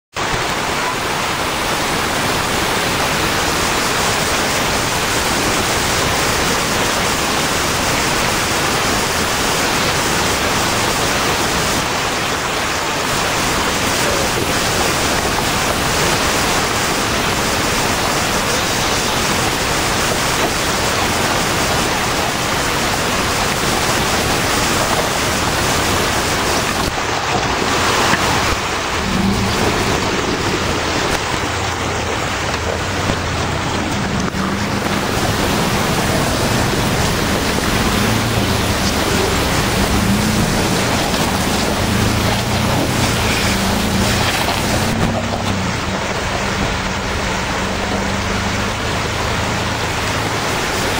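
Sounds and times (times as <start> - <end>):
rushing creek water: 0.0 - 50.9.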